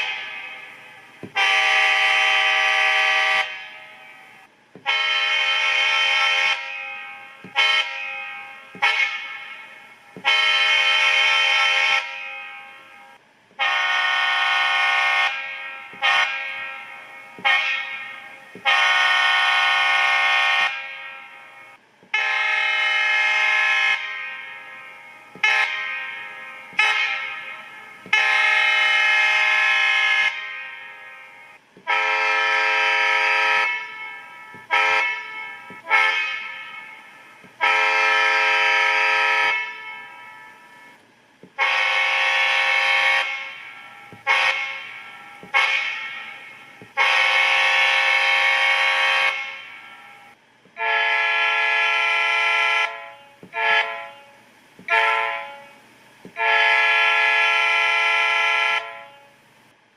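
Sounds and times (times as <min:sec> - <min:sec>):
locomotive air horn chime: 0:00.0 - 0:59.4.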